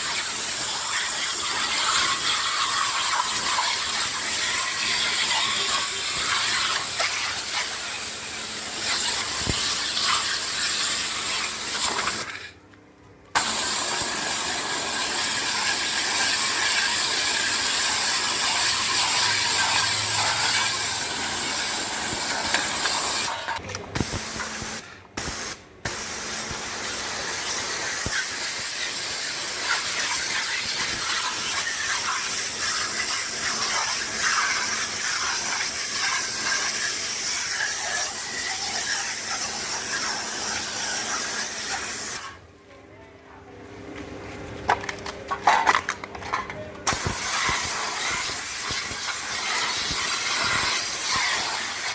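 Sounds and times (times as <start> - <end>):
pressure washer jet hissing: 0.0 - 12.4, 13.4 - 42.3, 46.9 - 51.9.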